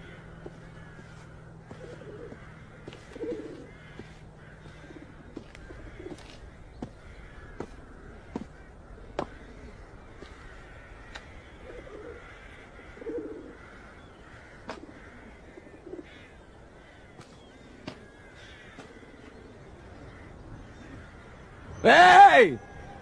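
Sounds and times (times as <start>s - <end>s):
crows cawing: 0.0s - 23.0s.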